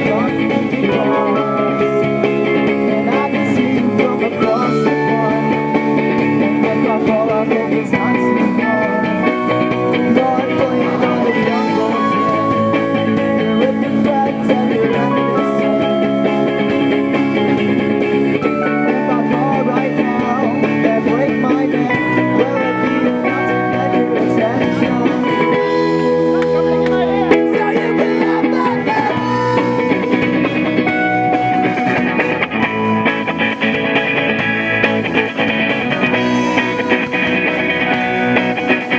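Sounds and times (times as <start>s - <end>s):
electric guitar: 0.0s - 38.9s
rock band playing live: 0.0s - 38.9s.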